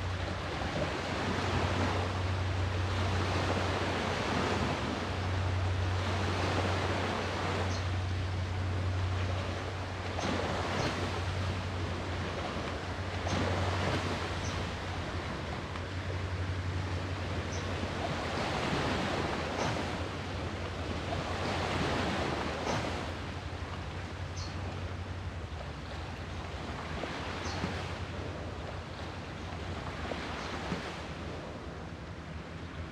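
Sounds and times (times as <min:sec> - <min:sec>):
sea waves washing ashore: 0:00.0 - 0:32.9.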